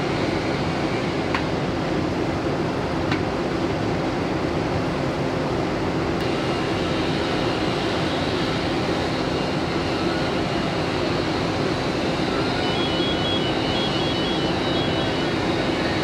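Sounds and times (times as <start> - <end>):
fire engine pumps droning: 0.0 - 16.0.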